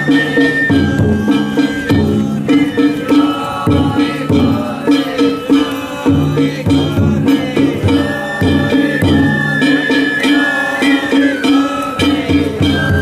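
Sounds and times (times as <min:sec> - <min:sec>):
bamboo flute high notes: 0:00.0 - 0:05.8, 0:06.8 - 0:13.0
ringing hand gongs: 0:00.0 - 0:13.0
taiko drum strokes: 0:00.0 - 0:13.0.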